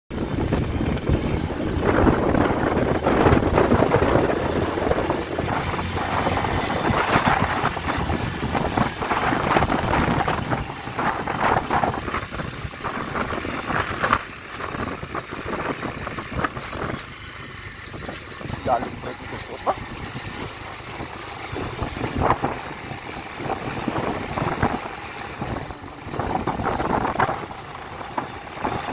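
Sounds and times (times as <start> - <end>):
small motorcycle running: 0.1 - 28.9
wind rushing over microphone: 0.1 - 28.9
tyres on gravel: 0.5 - 28.9.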